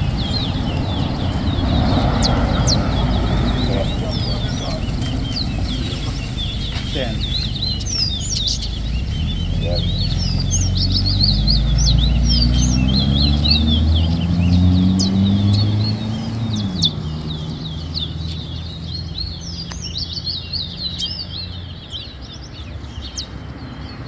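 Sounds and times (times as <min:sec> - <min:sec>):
engine humming: 0:00.0 - 0:22.4
songbird chirping: 0:00.0 - 0:24.0.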